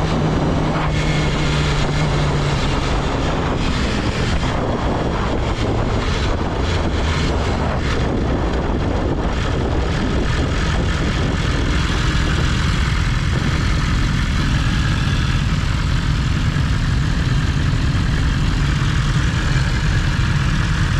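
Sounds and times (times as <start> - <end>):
motorcycle engine running: 0.0 - 20.9
wind noise: 0.0 - 20.9.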